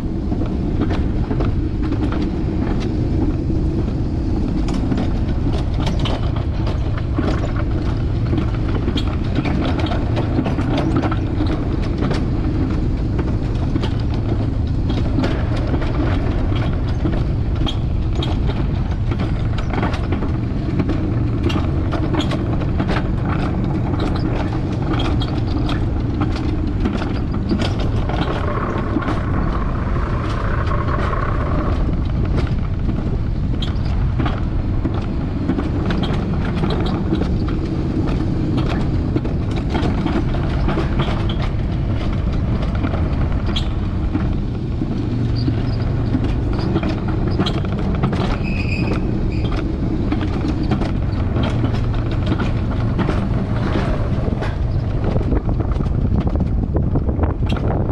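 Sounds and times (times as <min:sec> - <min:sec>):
clicks and knocks on rail joints: 0:00.0 - 0:57.9
sled wheels rumbling on rails: 0:00.0 - 0:57.9.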